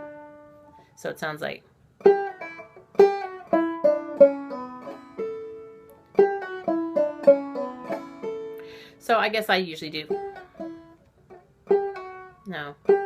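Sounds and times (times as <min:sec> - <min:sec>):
banjo picking: 0:00.0 - 0:00.9, 0:02.0 - 0:13.0.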